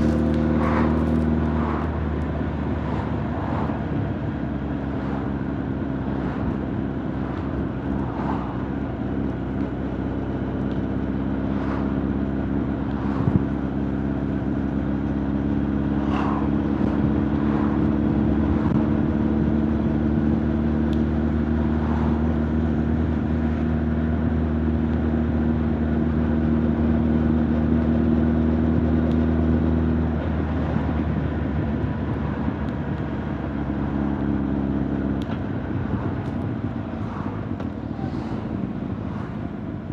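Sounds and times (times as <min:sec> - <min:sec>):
motorcycle engine and exhaust running: 0:00.0 - 0:39.9.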